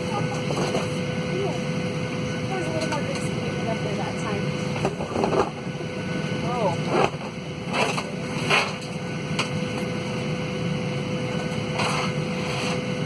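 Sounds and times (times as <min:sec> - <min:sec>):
airliner cabin rumble and hum: 0:00.0 - 0:13.0.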